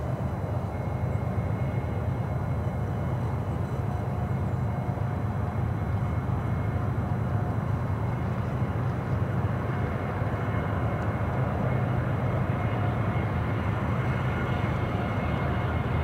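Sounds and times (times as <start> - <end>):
diesel locomotive engines droning: 0.0 - 16.0.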